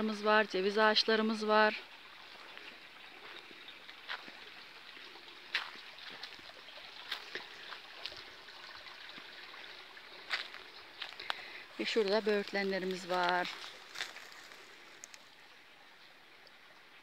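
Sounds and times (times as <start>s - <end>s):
stream rushing water: 0.0s - 17.0s.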